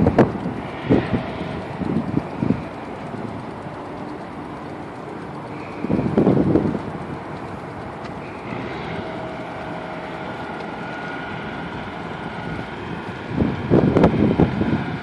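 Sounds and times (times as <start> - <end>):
bicycle rolling noise: 0.0 - 15.0
faint steady whine: 0.0 - 15.0
wind buffeting microphone: 0.0 - 15.0.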